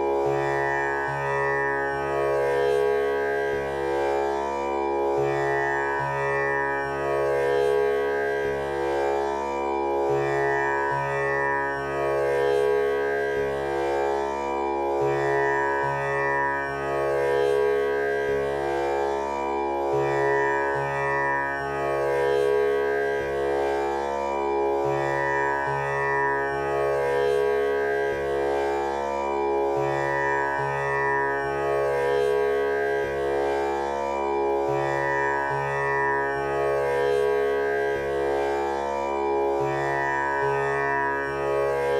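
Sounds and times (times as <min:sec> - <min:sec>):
tanpura drone: 0:00.0 - 0:41.9.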